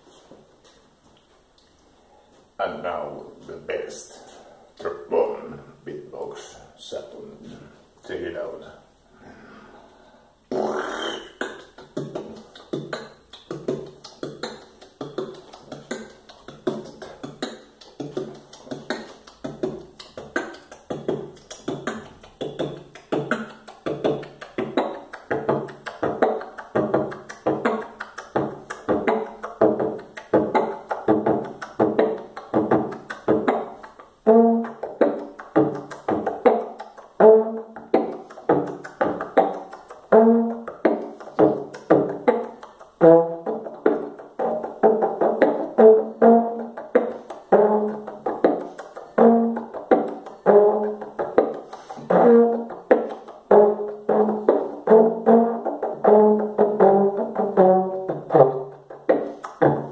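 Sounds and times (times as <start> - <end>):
percussive mouth beats: 0.0 - 9.0, 9.8 - 59.9
beatboxing brass-like notes: 2.6 - 8.7, 10.4 - 59.9.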